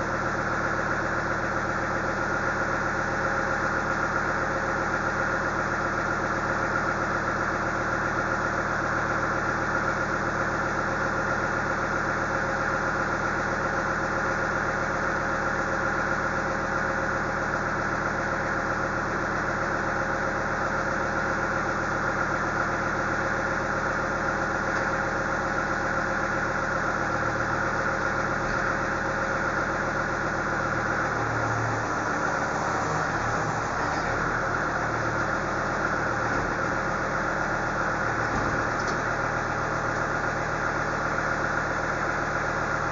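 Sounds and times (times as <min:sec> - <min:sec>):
engine idling: 0:00.0 - 0:42.9.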